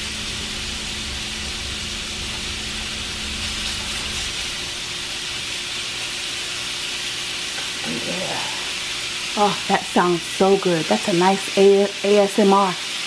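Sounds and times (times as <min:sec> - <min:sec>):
steak sizzling in frying pan: 0:00.0 - 0:13.0.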